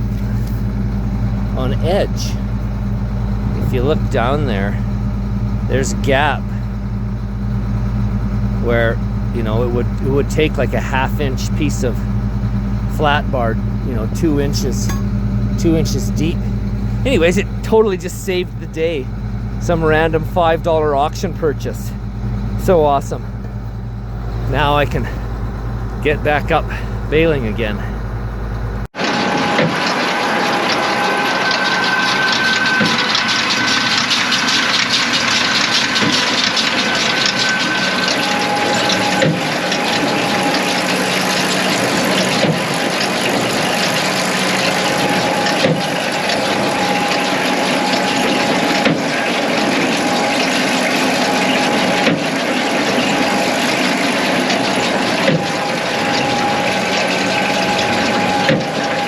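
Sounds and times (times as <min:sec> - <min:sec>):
tractor and baler running: 0:00.0 - 0:59.0.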